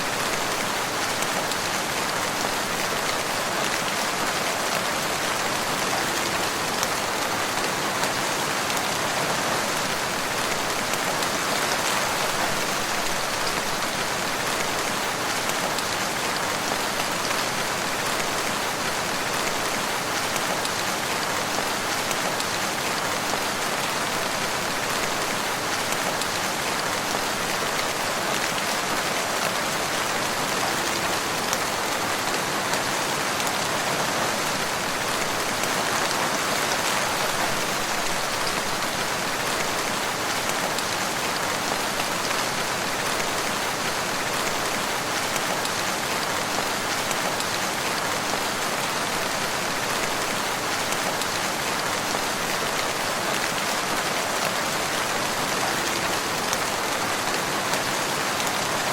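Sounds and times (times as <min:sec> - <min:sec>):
rain hissing in woodland: 0:00.0 - 0:58.9.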